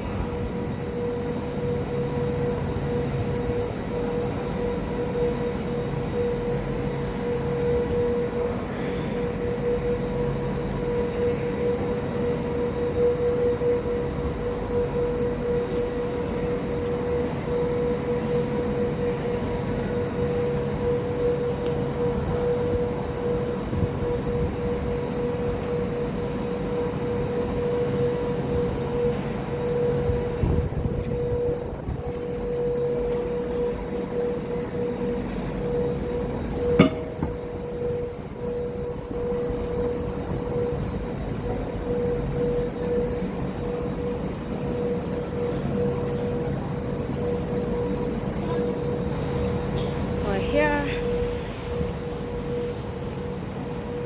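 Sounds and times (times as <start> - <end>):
constant whine: 0.0 - 54.0
train rumble: 0.0 - 54.0.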